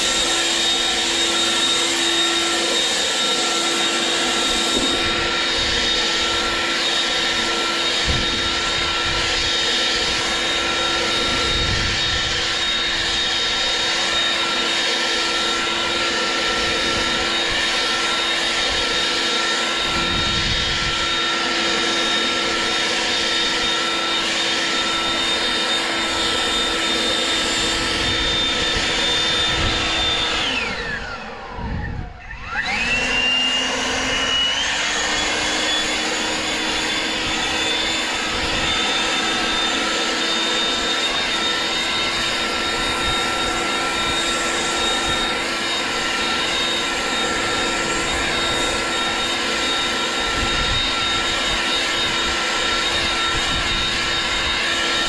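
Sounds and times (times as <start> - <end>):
leaf blower whining: 0.0 - 55.0.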